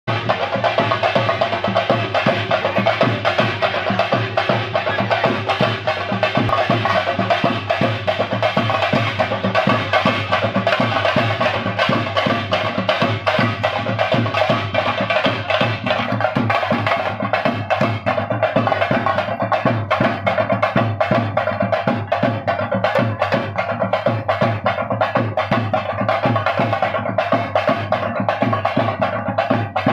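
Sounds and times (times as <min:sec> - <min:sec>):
fast drumming with sticks: 0:00.1 - 0:29.9.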